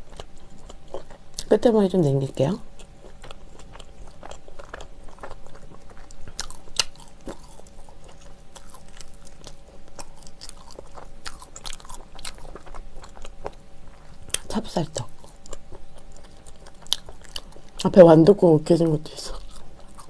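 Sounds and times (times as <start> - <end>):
chewing sticky bread: 0.0 - 20.0.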